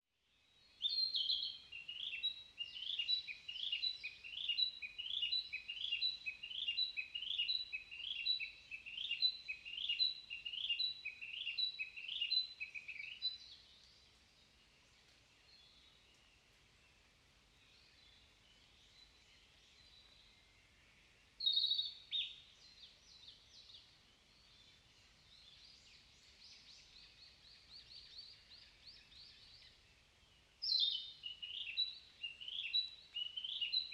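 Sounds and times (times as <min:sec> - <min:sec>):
bird singing: 0:00.2 - 0:16.4, 0:17.6 - 0:33.9.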